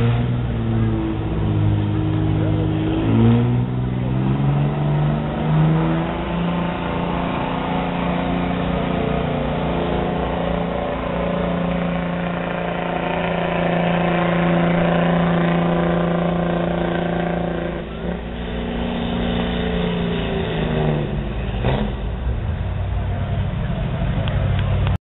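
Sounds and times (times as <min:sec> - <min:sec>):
truck engine at high revs: 0:00.0 - 0:25.0.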